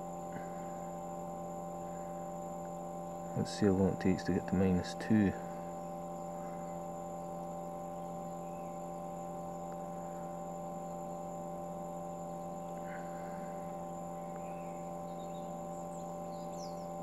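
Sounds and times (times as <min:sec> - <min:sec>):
chiller humming: 0:00.0 - 0:17.0.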